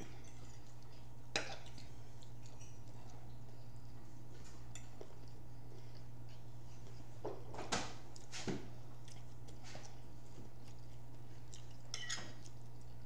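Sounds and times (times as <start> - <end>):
chewing with wet smacks: 0.0 - 7.1, 8.9 - 13.0
steady low hum: 0.0 - 13.0.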